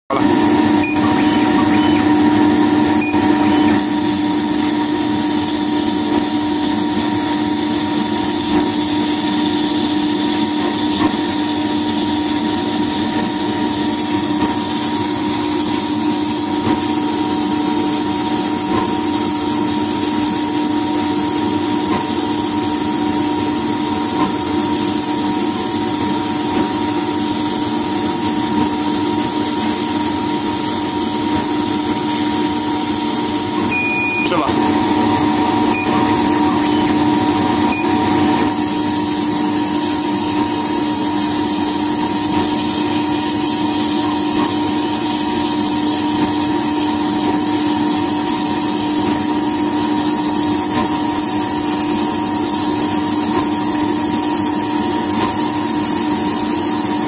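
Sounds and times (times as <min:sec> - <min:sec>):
laser cutter humming and hissing: 0:00.1 - 0:57.0.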